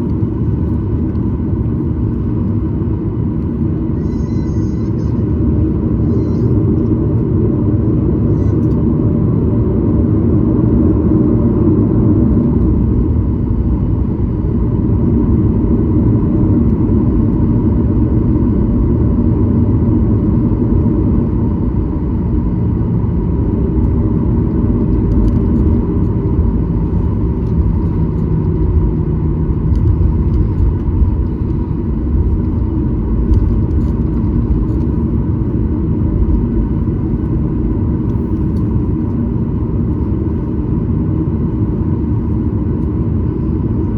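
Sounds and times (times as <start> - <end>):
jet engine rumble in cabin: 0.0 - 43.9.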